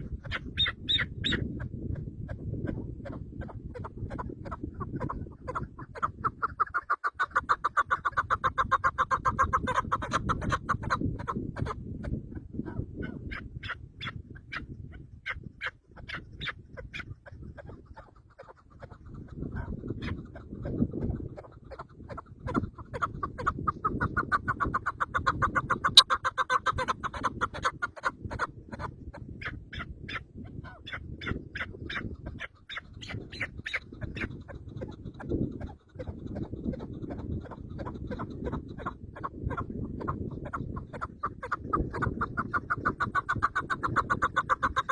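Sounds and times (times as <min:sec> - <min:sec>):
chicken clucking: 0:00.0 - 0:44.9.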